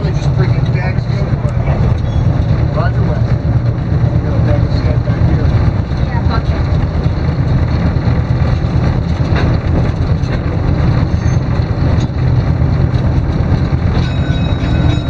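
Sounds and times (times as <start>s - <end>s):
diesel locomotive engines rumbling: 0.0s - 15.0s.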